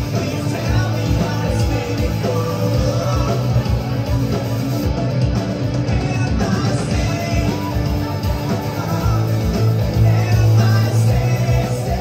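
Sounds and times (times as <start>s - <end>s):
rock band playing live: 0.0s - 12.0s
steady drum beat: 0.0s - 12.0s.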